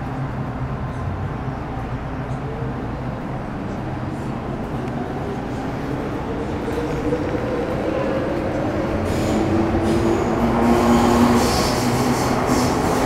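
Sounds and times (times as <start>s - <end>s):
train wheel and motor rumble: 0.0s - 13.0s.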